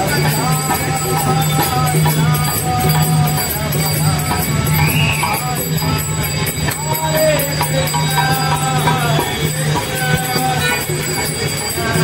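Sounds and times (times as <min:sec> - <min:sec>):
jingling metal percussion: 0:00.0 - 0:12.0
voices: 0:00.0 - 0:12.0.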